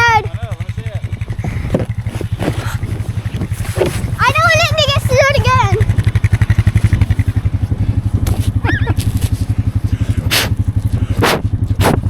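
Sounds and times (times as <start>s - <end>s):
atv engine pulsing: 0.0s - 12.0s.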